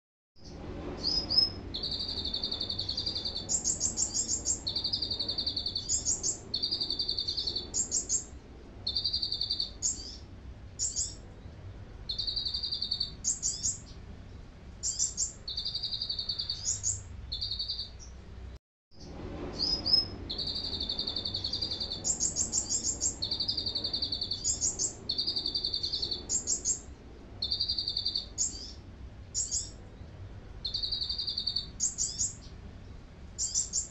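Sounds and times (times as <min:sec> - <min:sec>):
sunbird singing: 0:00.4 - 0:18.2, 0:19.6 - 0:33.9.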